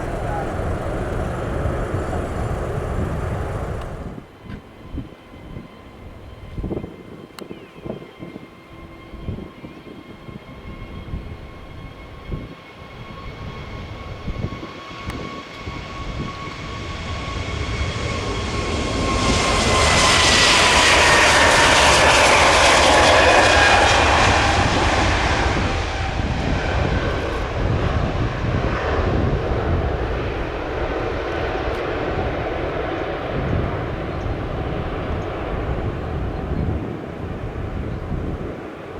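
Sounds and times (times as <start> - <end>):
jet engine low rumble: 0.0 - 7.2, 8.0 - 38.9
jet engine whine: 0.0 - 38.9.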